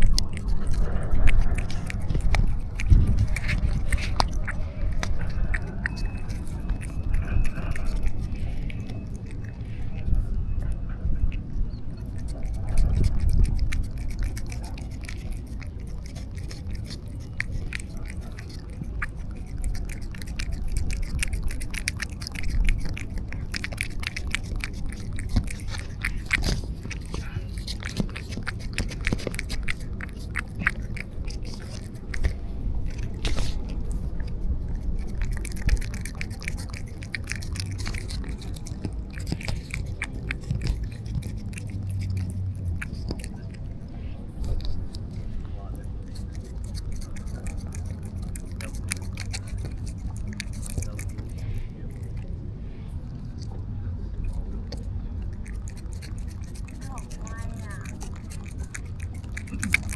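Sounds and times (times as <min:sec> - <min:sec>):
low rumble: 0:00.0 - 0:56.3
cat chewing and licking: 0:00.0 - 0:59.9.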